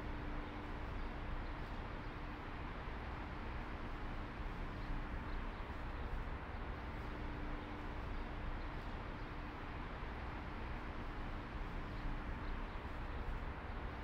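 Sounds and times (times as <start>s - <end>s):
faint constant hum: 0.0s - 14.0s.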